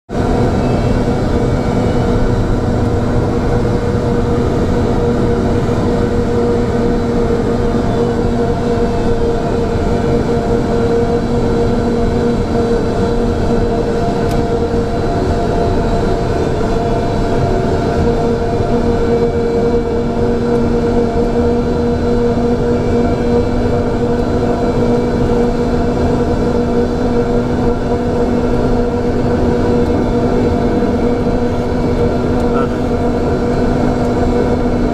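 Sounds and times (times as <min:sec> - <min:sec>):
aircraft cockpit drone: 0:00.1 - 0:34.9
steady humming tones: 0:00.1 - 0:34.9.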